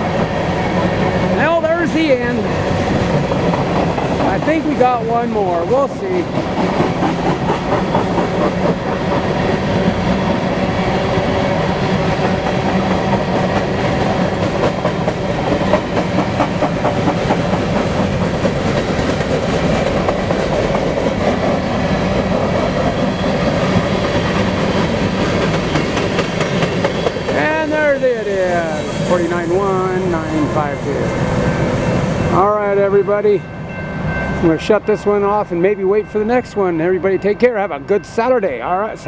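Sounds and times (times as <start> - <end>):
train wheels clickety-clack: 0.0 - 33.1
train rumble: 0.0 - 39.0.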